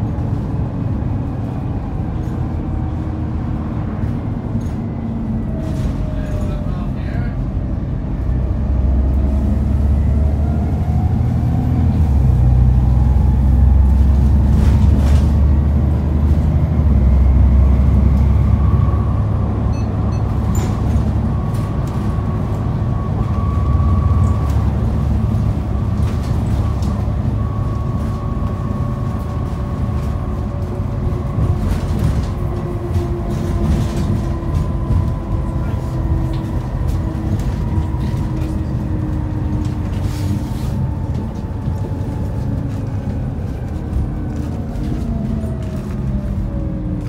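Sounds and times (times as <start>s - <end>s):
bus engine drone with whine: 0.0s - 47.0s.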